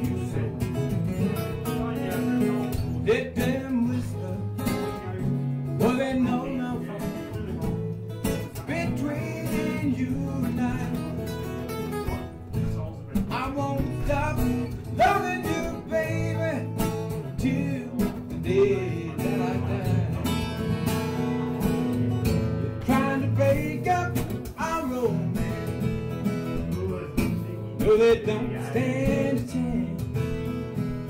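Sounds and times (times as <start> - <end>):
acoustic guitar playing blues: 0.0 - 31.0.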